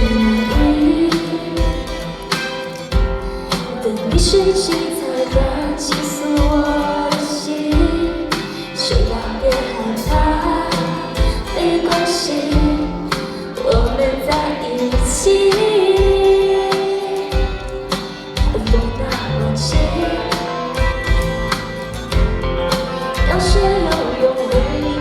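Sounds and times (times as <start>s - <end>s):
band backing: 0.0s - 25.0s
woman singing pop song: 0.0s - 25.0s.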